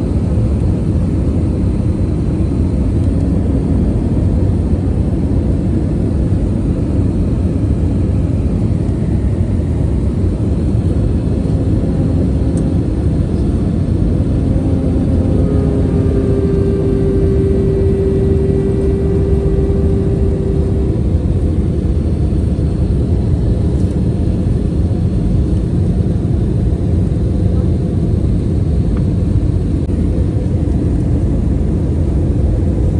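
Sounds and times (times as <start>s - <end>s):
airliner engines rumbling: 0.0s - 32.9s
steady hum: 0.0s - 32.9s.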